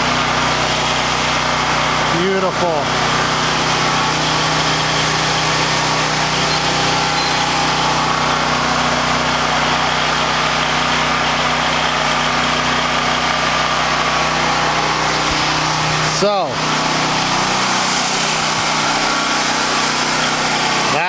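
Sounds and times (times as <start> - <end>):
generator engine running steadily: 0.0 - 21.0.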